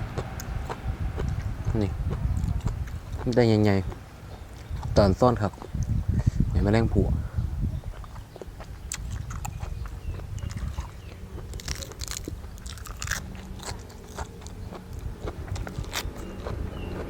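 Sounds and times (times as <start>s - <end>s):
person crunching and chewing: 0.0s - 6.3s, 7.8s - 17.0s.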